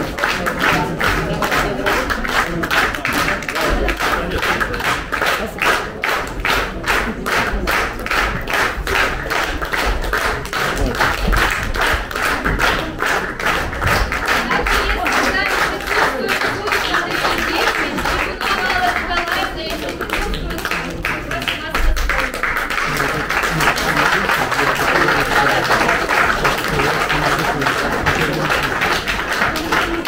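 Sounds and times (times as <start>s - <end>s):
audience clapping in unison: 0.0s - 30.0s.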